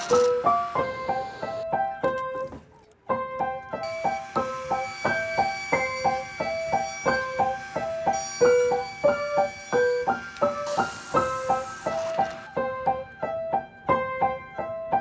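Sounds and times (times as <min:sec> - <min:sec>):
light piano tune: 0:00.0 - 0:15.0.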